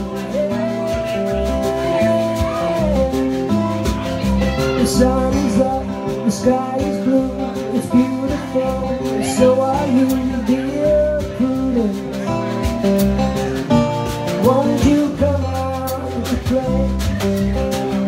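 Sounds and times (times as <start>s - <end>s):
acoustic guitar strumming: 0.0s - 18.0s
drum kit and cymbals: 0.0s - 18.0s
man singing: 0.0s - 18.0s.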